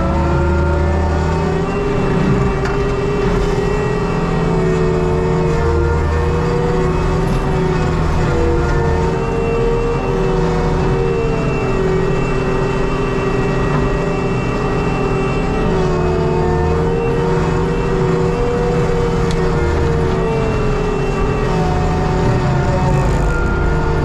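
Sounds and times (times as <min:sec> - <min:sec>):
diesel engine running hard: 0:00.0 - 0:24.0
mulcher head whine: 0:00.0 - 0:24.0.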